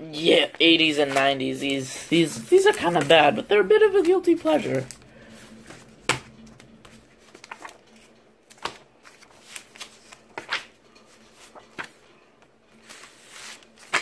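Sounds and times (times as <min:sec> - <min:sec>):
plastic rustling and crinkling: 0:00.2 - 0:14.0.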